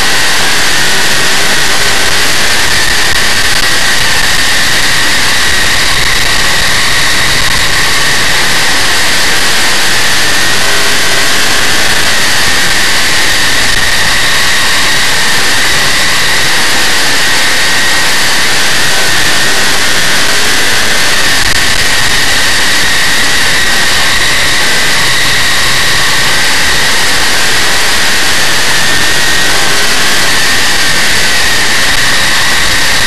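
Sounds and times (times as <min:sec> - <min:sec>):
race car engine roaring: 0:00.0 - 0:33.0.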